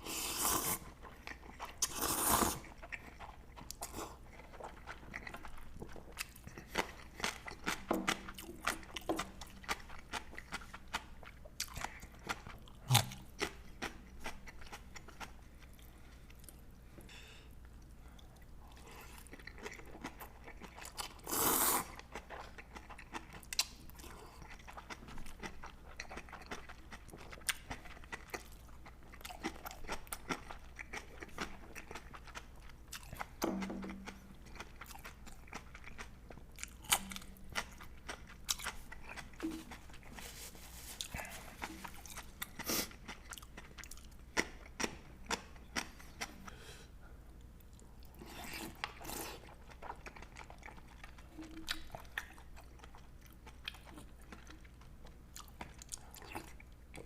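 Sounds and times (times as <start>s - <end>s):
person chewing crunchy food: 0.0s - 16.7s, 17.6s - 46.7s, 47.4s - 57.0s.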